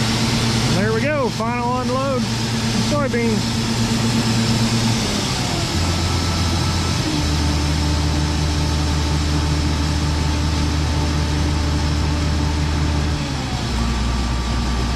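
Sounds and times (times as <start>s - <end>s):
combine harvester engine running: 0.0s - 14.9s.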